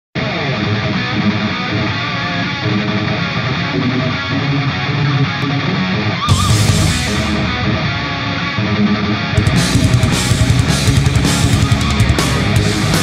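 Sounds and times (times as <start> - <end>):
strummed guitar music: 0.2 - 13.0.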